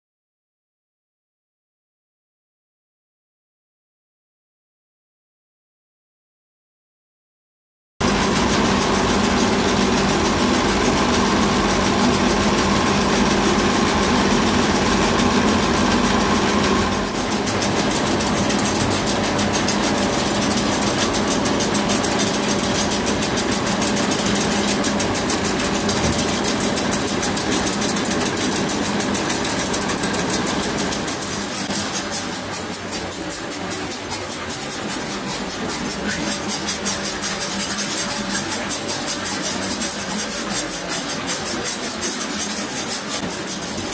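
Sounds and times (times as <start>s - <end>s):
fast mechanical ticking clatter: 8.0s - 43.9s
steady machine hum: 8.0s - 43.9s.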